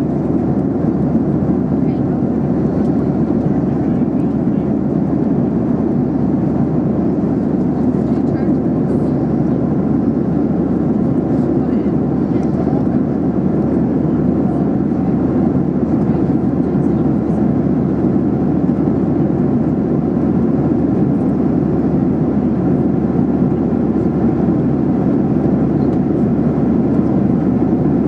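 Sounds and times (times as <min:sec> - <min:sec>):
airplane cabin airflow rush: 0:00.0 - 0:28.0
jet engine hum: 0:00.0 - 0:28.0.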